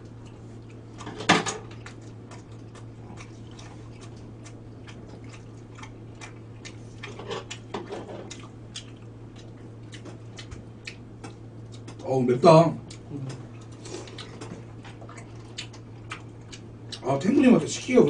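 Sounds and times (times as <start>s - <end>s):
chewing: 0.0s - 12.0s, 12.8s - 17.2s
steady low hum: 0.0s - 18.0s.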